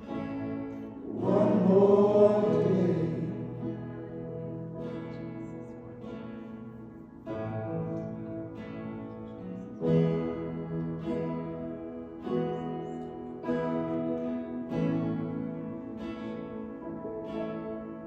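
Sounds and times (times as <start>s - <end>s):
guitar strumming chords: 0.0s - 18.0s.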